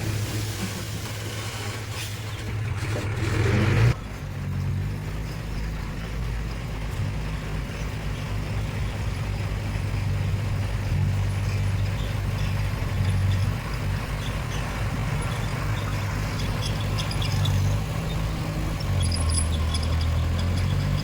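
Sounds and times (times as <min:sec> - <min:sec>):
diesel machinery droning: 0:00.0 - 0:21.0.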